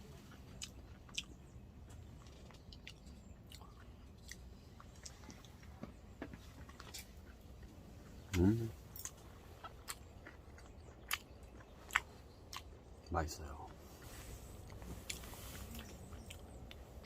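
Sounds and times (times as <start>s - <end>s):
faint chewing: 0.0s - 17.0s.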